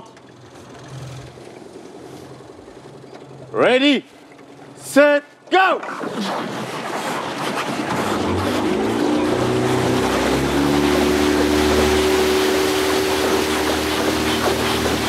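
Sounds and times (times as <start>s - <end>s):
outboard engine speeding up: 0.0s - 4.9s, 5.8s - 15.0s
water rushing along hull: 0.0s - 15.0s.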